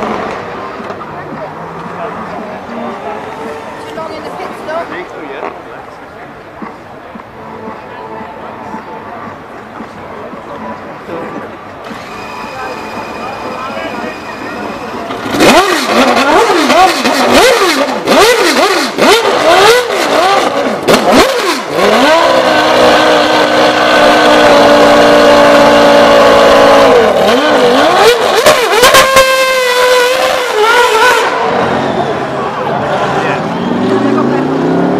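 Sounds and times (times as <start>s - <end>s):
racing car engine revving: 0.0s - 5.7s, 11.0s - 34.9s.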